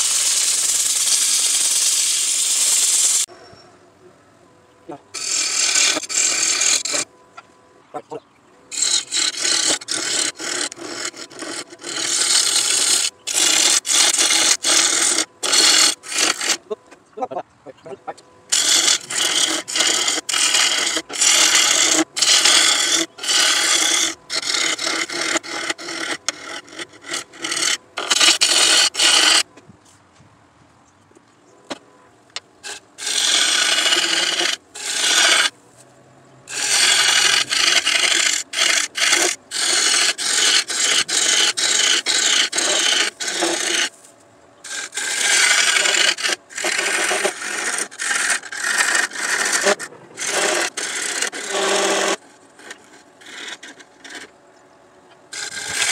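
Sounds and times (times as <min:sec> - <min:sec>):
lathe tool scraping wood: 0:00.0 - 0:03.3, 0:05.1 - 0:07.5, 0:08.7 - 0:16.8, 0:18.5 - 0:29.5, 0:32.6 - 0:35.6, 0:36.5 - 0:54.4, 0:55.3 - 0:55.9.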